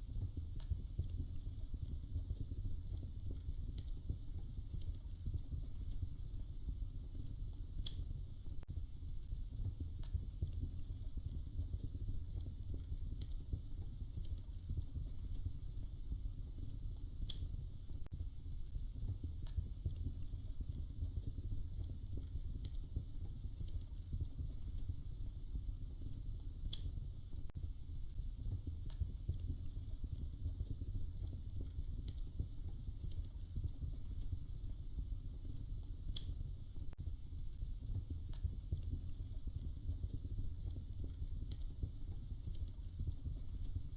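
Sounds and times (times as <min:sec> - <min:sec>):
fire popping: 0:00.0 - 0:43.9
wood fire crackling: 0:00.0 - 0:43.9.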